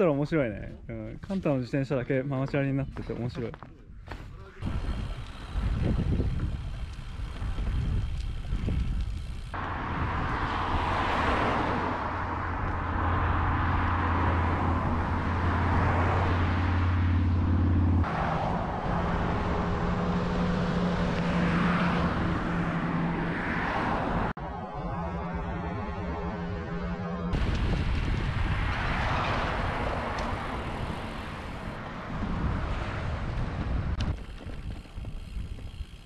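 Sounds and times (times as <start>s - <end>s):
road noise: 0.0s - 36.0s
vehicles passing: 4.2s - 36.0s.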